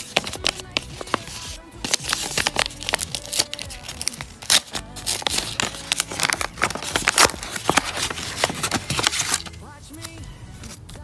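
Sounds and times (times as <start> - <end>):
plastic packaging crinkling and tearing: 0.0 - 9.6.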